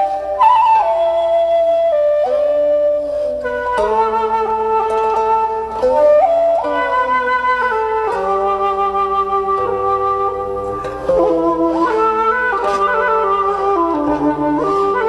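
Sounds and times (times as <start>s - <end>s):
slow flute music: 0.0s - 15.0s.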